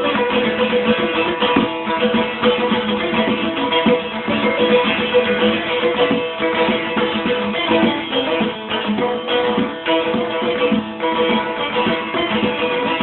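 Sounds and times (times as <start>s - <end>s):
plucked string instrument strumming: 0.0s - 13.0s.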